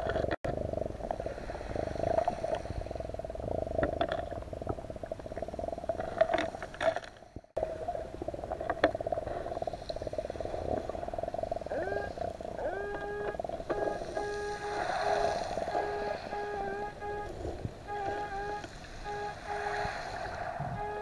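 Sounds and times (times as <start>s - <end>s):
underwater fluttering hum: 0.0s - 21.0s.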